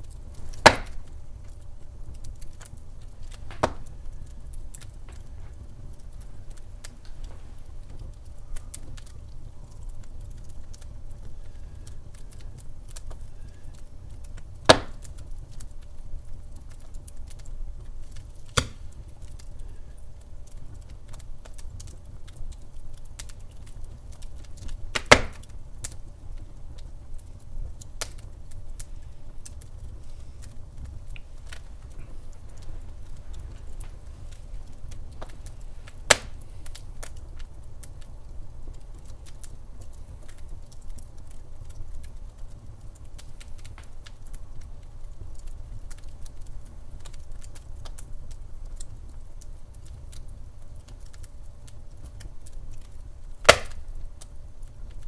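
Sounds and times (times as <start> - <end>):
sharp fire pops: 0.0 - 15.8, 16.6 - 44.3, 52.0 - 54.3
wood fire crackling: 0.0 - 55.0.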